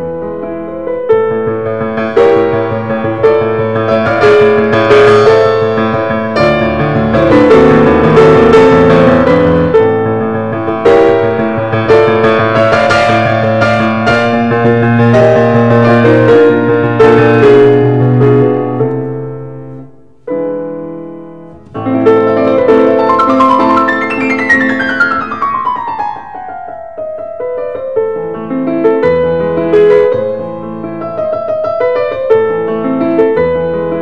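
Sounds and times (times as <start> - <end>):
solo piano music: 0.0 - 34.0.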